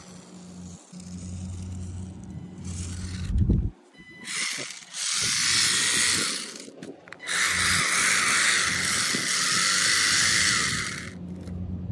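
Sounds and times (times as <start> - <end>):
toy car electric motor whining: 0.0 - 11.5.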